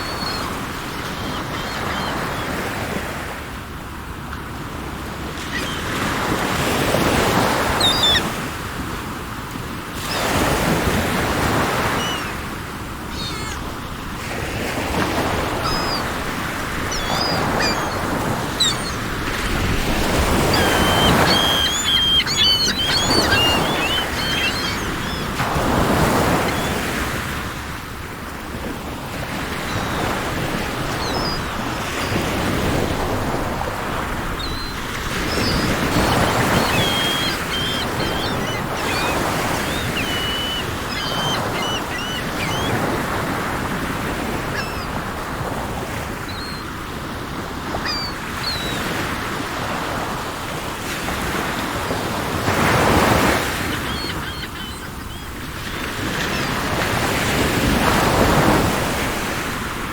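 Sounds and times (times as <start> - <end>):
birds chirping: 0.0 - 4.1, 4.9 - 8.8, 9.8 - 50.1, 50.8 - 59.0
sea waves breaking: 0.0 - 59.9.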